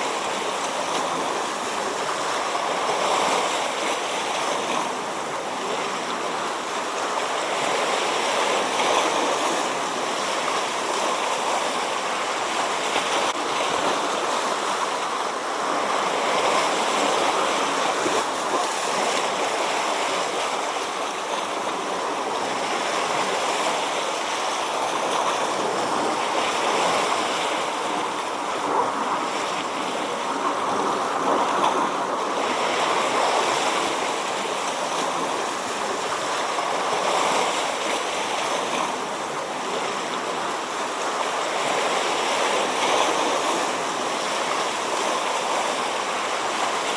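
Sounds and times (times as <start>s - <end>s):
sea waves washing onto shore: 0.0s - 46.9s.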